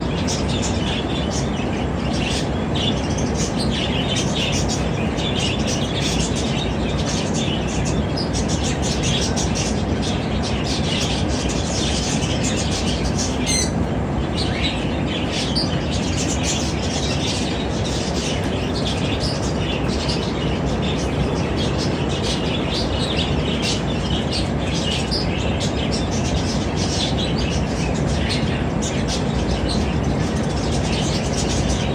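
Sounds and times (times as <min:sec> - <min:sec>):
zebra finches chirping: 0:00.0 - 0:31.9.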